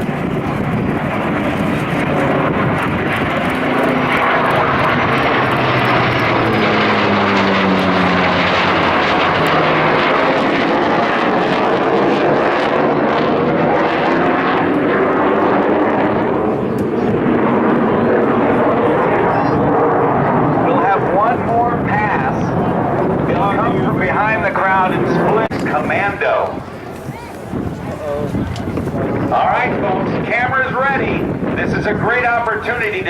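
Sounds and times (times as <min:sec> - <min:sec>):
jet engines roaring past: 0:00.0 - 0:33.0.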